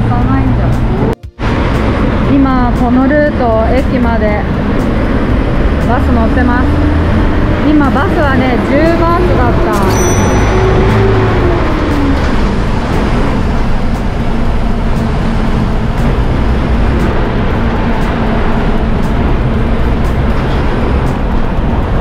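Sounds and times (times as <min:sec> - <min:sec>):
bus engine drone: 0:00.0 - 0:22.0
road rumble: 0:00.0 - 0:22.0.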